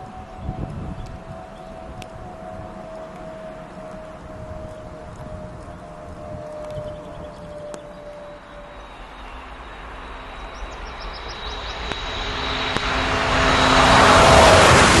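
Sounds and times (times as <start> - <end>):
faint steady whistle: 0.0 - 15.0
high-speed train rushing: 0.0 - 15.0.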